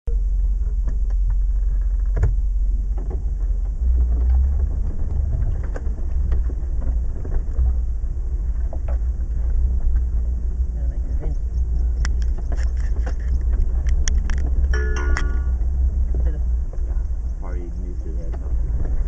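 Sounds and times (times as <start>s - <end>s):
engine rumbling at low revs: 0.0s - 19.0s.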